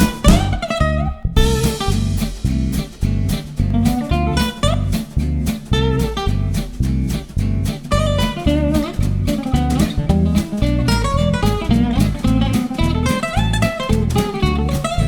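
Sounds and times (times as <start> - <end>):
acoustic guitar playing: 0.0 - 15.0
steady bass: 0.0 - 15.0.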